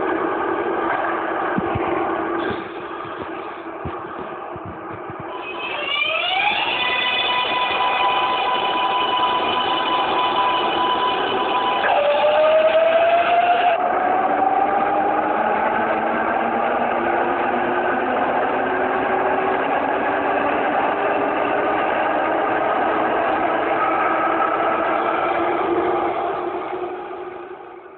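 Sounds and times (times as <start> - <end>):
subway train motor whining: 0.0 - 27.9
train running noise: 0.0 - 27.9.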